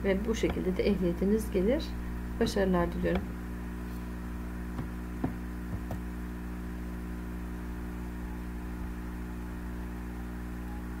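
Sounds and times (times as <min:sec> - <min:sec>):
steady electrical hum and hiss: 0:00.0 - 0:11.0.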